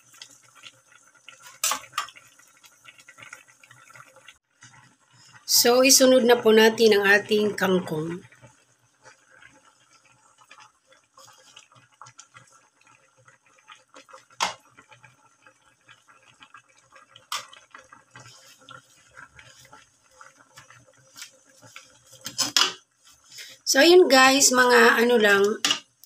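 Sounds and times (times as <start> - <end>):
liquid bubbling and crackling in a wok: 0.0 - 24.3, 25.6 - 26.0.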